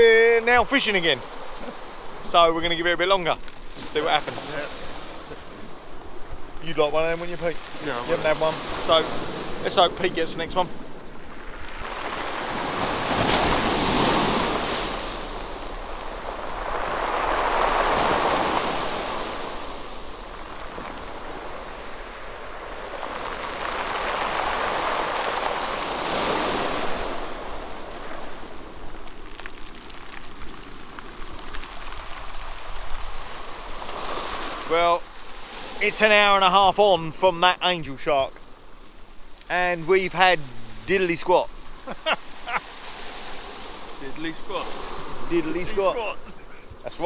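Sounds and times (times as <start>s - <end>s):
sea surf breaking: 0.0s - 47.0s.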